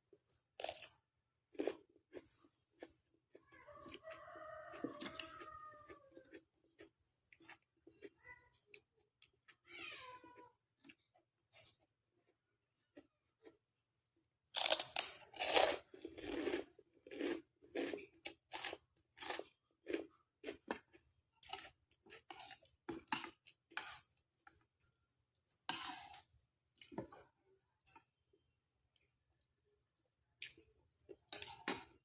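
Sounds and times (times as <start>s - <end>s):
person chewing: 0.1s - 9.6s, 10.7s - 32.0s.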